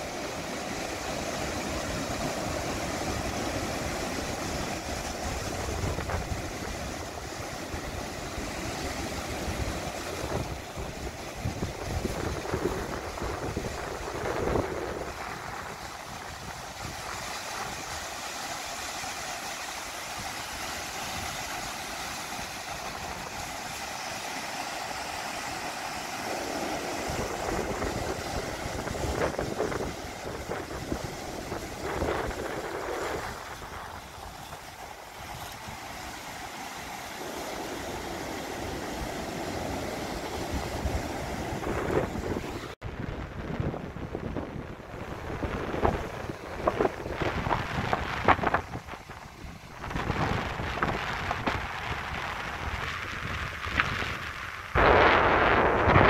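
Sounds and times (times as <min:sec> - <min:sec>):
surf washing over rocks: 0:00.0 - 0:56.0
wind buffeting microphone: 0:00.9 - 0:18.1, 0:26.4 - 0:36.2, 0:37.6 - 0:56.0.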